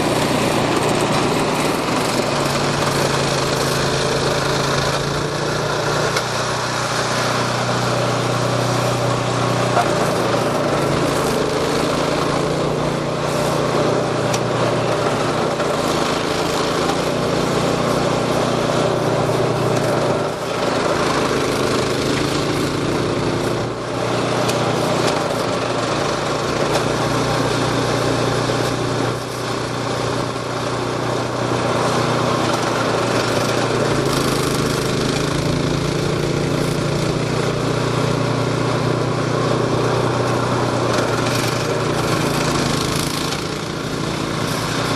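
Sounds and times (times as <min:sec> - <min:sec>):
snow-clearing machine engine: 0:00.0 - 0:44.9.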